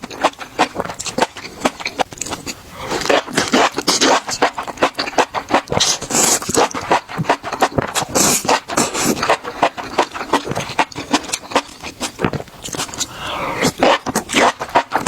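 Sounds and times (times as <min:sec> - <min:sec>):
crunching food being chewed: 0:00.0 - 0:15.0.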